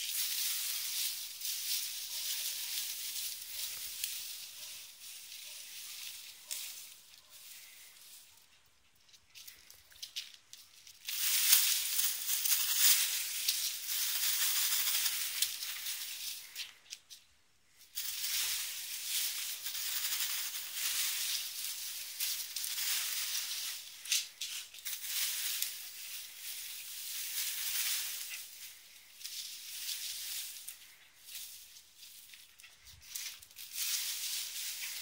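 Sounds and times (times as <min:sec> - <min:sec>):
hedge leaves rustling: 0:00.0 - 0:35.0.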